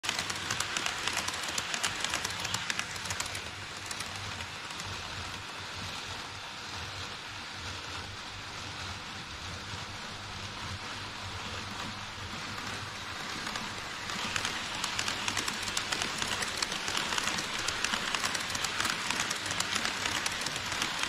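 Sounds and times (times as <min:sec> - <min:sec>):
model train wheels clicking: 0:00.0 - 0:21.0
model train rolling hiss: 0:00.1 - 0:07.3, 0:10.0 - 0:21.0.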